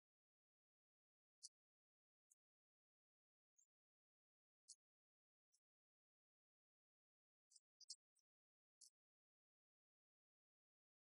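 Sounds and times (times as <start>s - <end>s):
faint high-pitched ticks: 0.0s - 11.0s.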